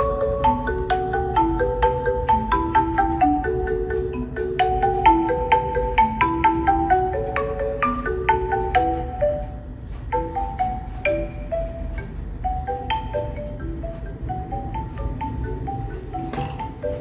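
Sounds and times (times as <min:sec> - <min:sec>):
mallet instrument melody: 0:00.0 - 0:17.0.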